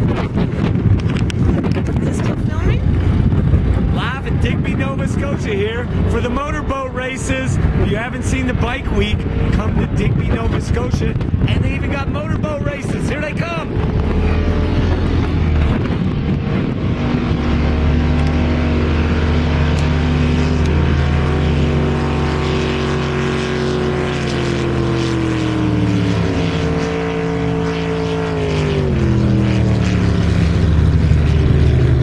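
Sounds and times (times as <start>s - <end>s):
motorboat engines: 0.0s - 32.0s.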